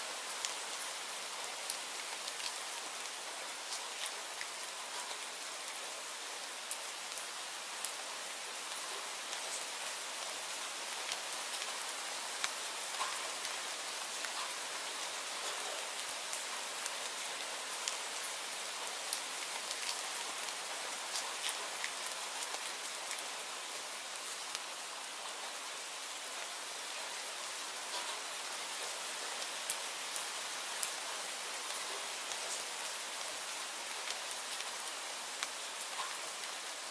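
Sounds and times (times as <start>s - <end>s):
steady rainfall hiss: 0.0s - 36.9s
raindrops ticking on surface: 0.2s - 36.9s.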